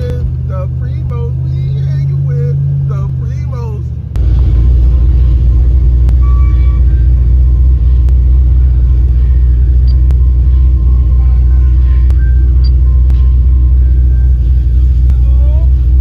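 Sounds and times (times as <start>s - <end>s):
car low rumble: 0.0s - 16.0s.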